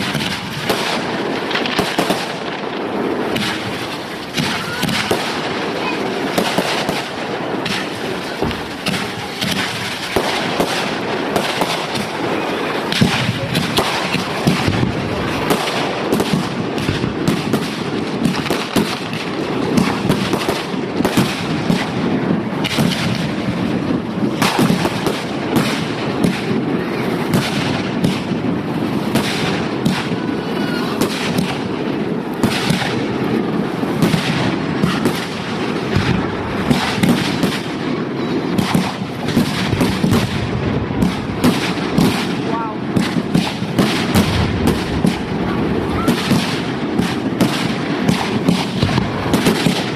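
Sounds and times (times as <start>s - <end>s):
fireworks banging: 0.0s - 49.9s
fireworks crackling: 0.0s - 49.9s.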